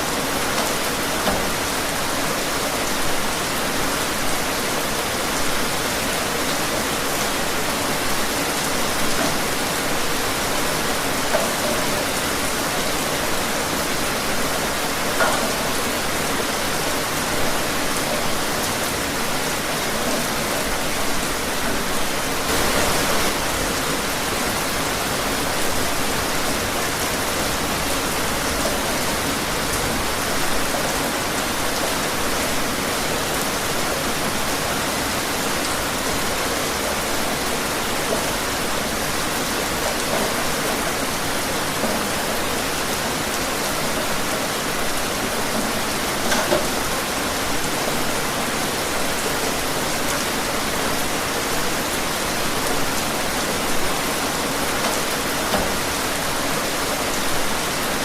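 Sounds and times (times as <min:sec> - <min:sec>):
raindrops splashing: 0:00.0 - 0:58.0
steady rain falling: 0:00.0 - 0:58.0.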